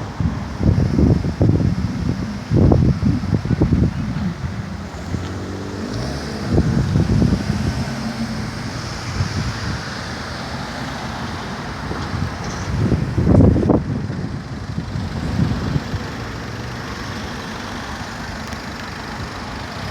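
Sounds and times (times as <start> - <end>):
wind on microphone: 0.0 - 16.3
sports car engine revving: 0.1 - 17.9.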